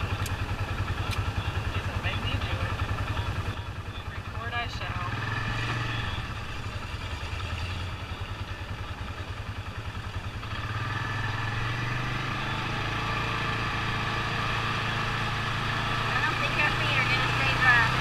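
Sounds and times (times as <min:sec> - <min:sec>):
utility vehicle engine running: 0:00.0 - 0:18.0.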